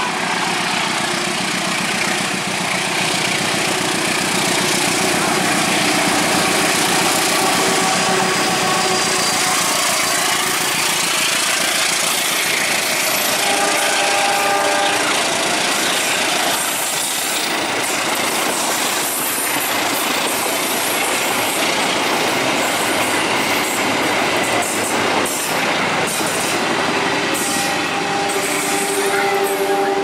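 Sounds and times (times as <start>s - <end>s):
diesel locomotive engine: 0.0s - 30.0s
train wheels rolling on rails: 0.0s - 30.0s.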